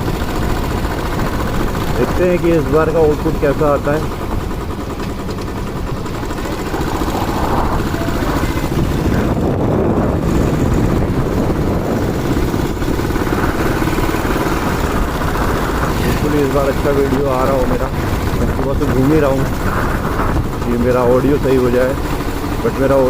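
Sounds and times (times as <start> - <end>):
motorcycle engine running: 0.0 - 23.0
wind noise on microphone: 3.4 - 22.8.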